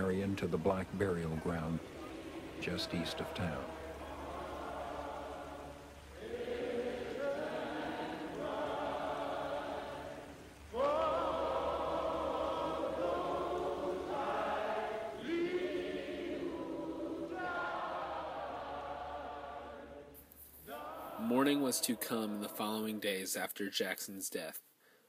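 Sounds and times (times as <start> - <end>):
choir singing: 0.0 - 23.2.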